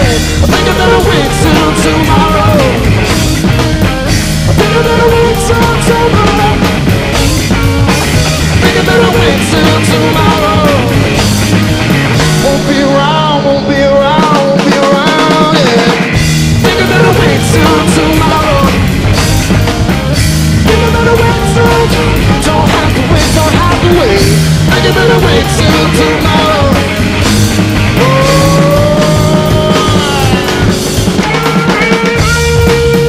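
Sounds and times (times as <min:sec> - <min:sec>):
acoustic drum kit: 0:00.0 - 0:33.0
rock backing track: 0:00.0 - 0:33.0.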